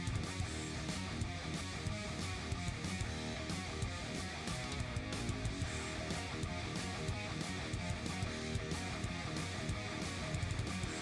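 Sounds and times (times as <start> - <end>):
guitar music with steady beat: 0.0 - 11.0.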